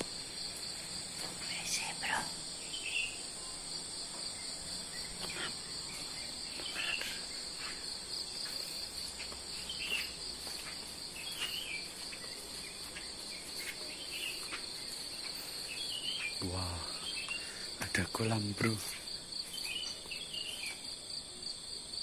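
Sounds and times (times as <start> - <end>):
short insect chirps: 0.0 - 21.3
crickets trilling: 0.0 - 22.0.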